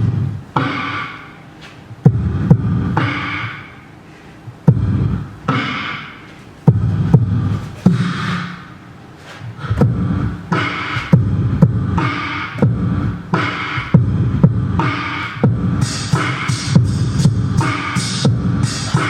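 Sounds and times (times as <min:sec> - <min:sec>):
beatboxing: 0:00.0 - 0:19.0.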